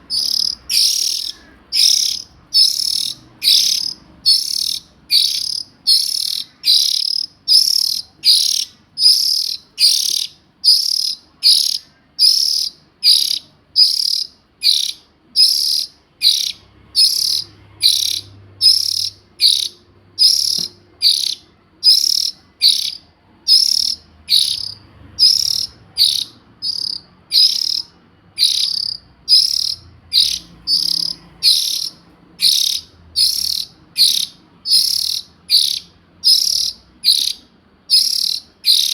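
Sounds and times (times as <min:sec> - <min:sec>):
bird harsh hissing call: 0:00.1 - 0:38.9.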